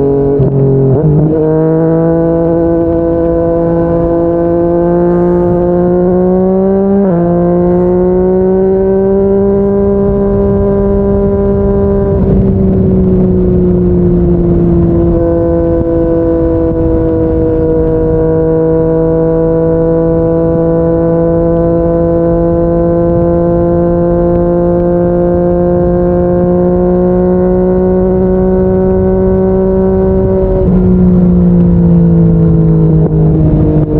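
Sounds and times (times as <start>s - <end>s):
motorcycle engine cruising: 0.0s - 33.9s.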